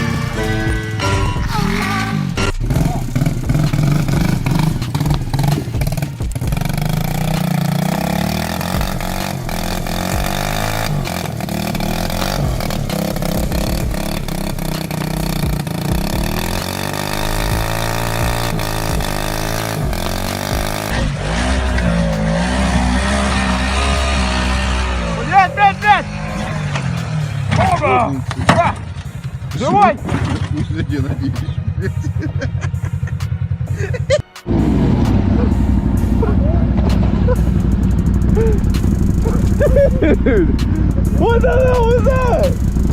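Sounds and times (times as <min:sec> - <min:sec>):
off-road vehicle engines revving: 0:00.0 - 0:42.9.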